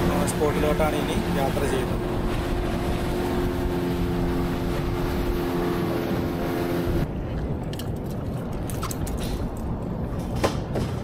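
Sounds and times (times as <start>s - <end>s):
boat engine running: 0.0s - 10.1s.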